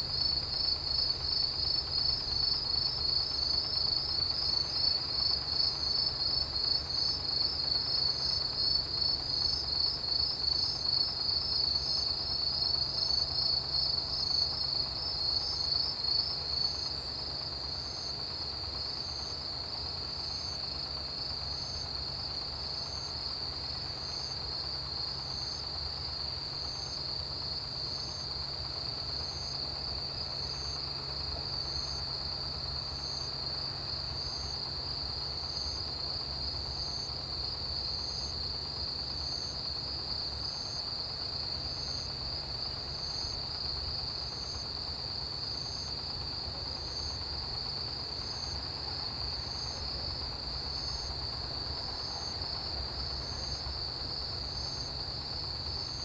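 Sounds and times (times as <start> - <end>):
insect chirping: 0.0 - 56.0
insects trilling in chorus: 0.0 - 56.0.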